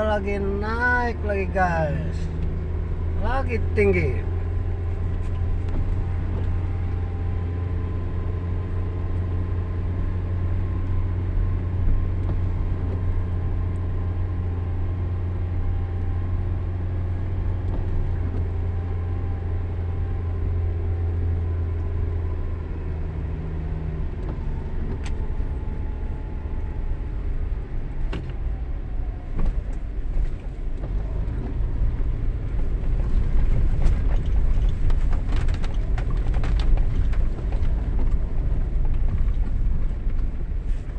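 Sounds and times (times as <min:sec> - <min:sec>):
car engine droning uphill: 0:00.0 - 0:40.9.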